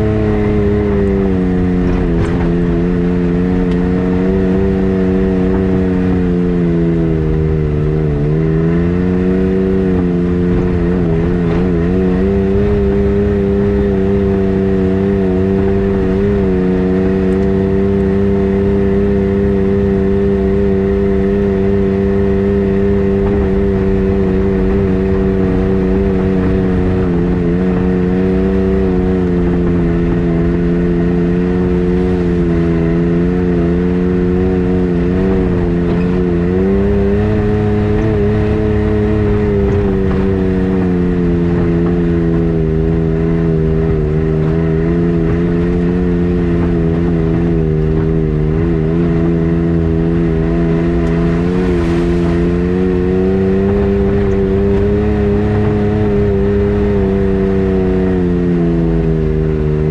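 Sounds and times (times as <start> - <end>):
road and wind rumble: 0.0 - 59.9
vehicle engine running: 0.0 - 59.9.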